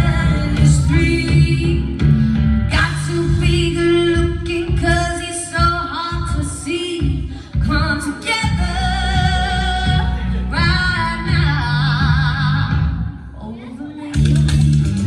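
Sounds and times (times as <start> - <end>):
steady bass backing: 0.0 - 13.5, 14.1 - 15.0.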